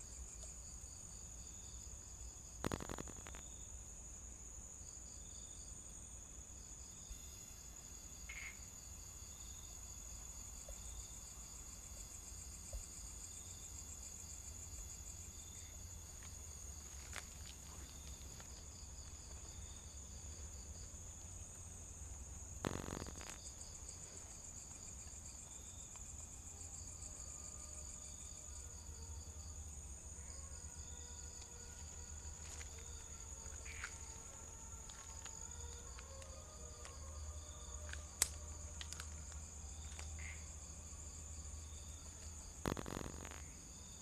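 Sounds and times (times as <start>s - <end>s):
crickets trilling: 0.0s - 44.0s
insects chirping in pulses: 0.0s - 44.0s.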